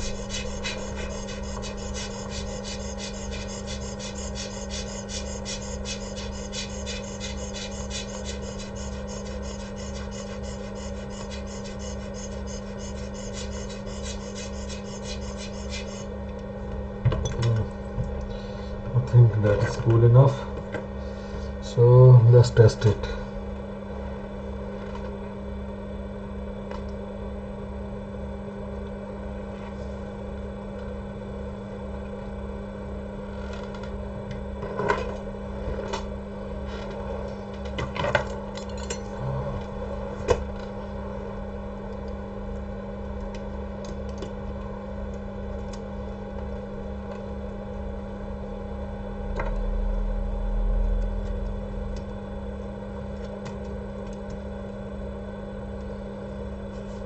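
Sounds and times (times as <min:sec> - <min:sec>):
electrical hum with low pulsing: 0:00.0 - 0:57.0.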